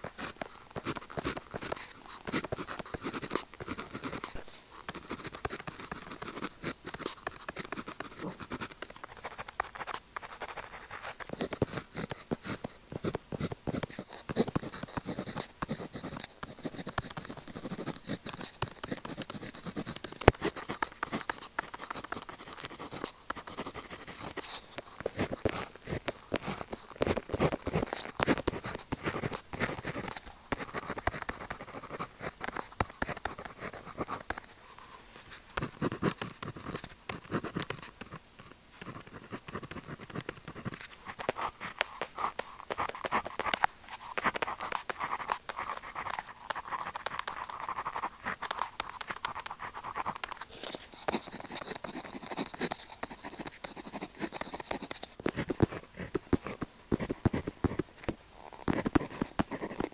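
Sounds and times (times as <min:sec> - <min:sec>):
pen scratching on paper: 0:00.0 - 0:59.9.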